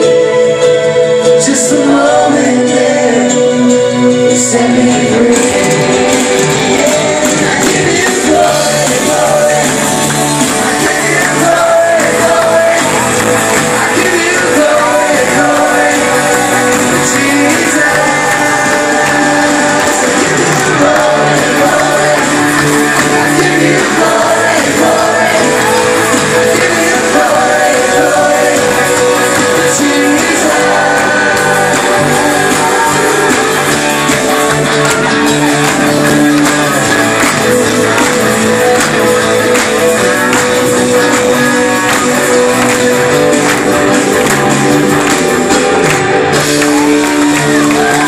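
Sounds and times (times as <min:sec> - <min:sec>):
worship band playing: 0:00.0 - 0:48.0
voices singing: 0:01.4 - 0:48.0.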